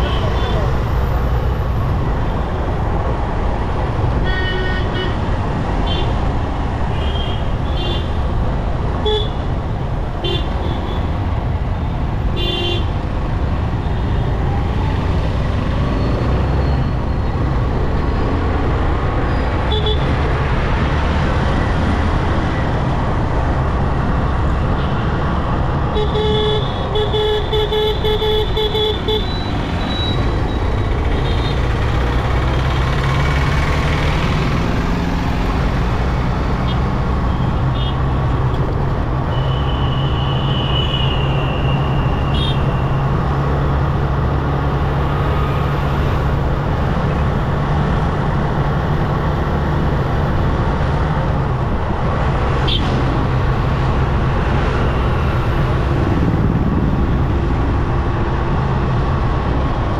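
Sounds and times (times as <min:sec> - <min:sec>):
city traffic noise: 0:00.0 - 0:59.9.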